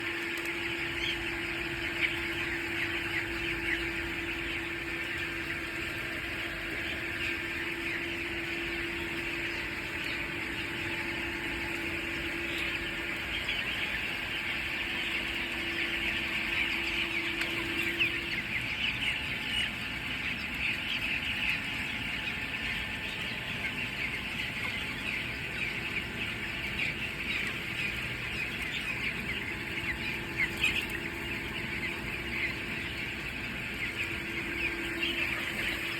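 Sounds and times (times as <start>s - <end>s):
chicks peeping: 0.0s - 35.9s
steady low hum: 0.0s - 35.9s.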